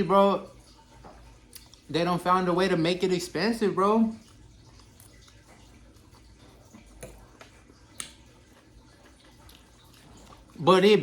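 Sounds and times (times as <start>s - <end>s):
faint eating sounds: 0.0s - 11.0s.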